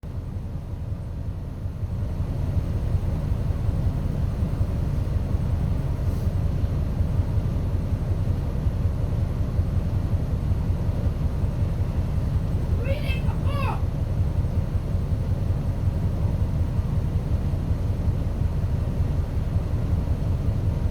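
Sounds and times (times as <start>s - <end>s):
bus engine rumble: 0.0s - 20.9s.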